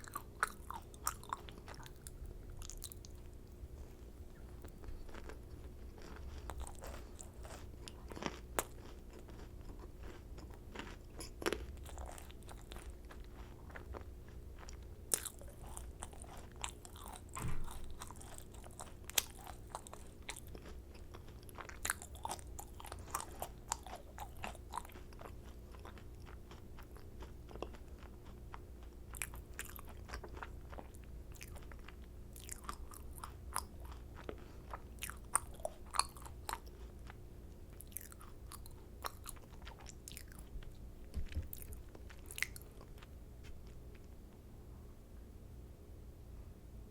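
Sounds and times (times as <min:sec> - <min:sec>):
crisp shells crunching and chewed: 0:00.0 - 0:44.2
steady low hum: 0:00.0 - 0:46.9.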